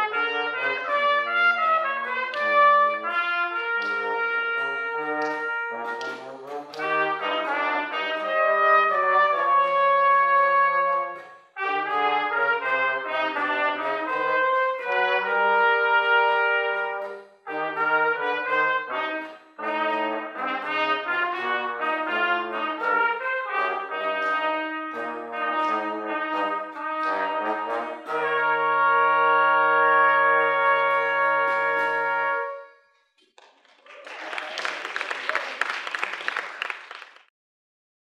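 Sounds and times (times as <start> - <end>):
brass ensemble playing chords: 0.0 - 32.8.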